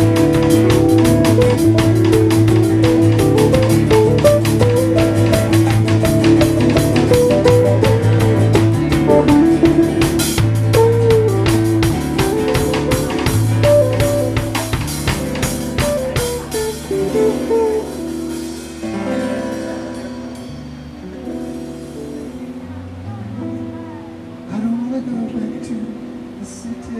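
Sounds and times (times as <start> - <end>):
drum kit beat: 0.0 - 22.5
electric guitar melody: 0.0 - 26.9.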